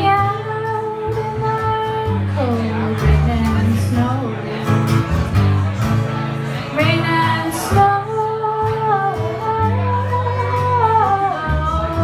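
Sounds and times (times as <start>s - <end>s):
acoustic guitar: 0.0s - 12.0s
upright bass: 0.0s - 12.0s.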